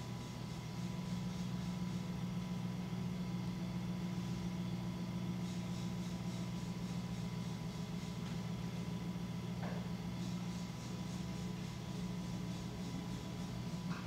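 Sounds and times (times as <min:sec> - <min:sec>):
potter's wheel motor humming: 0:00.0 - 0:14.0.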